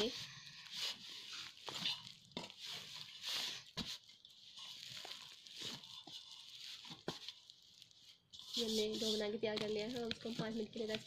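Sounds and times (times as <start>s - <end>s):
hands kneading dough: 0.0s - 11.0s.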